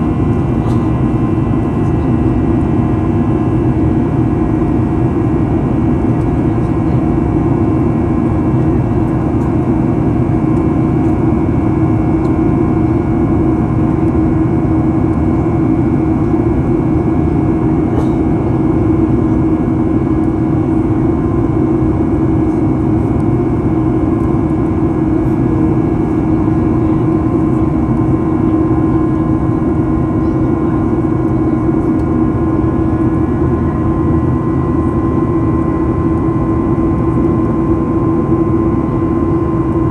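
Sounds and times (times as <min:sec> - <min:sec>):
airplane cabin engine drone: 0:00.0 - 0:39.9
steady hum tone: 0:00.0 - 0:39.9.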